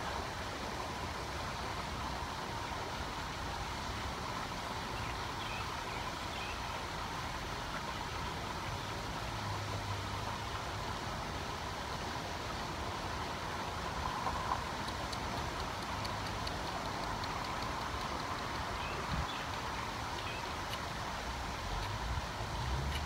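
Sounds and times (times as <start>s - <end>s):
fountain splashing: 0.0s - 23.0s
traffic noise: 0.0s - 23.0s.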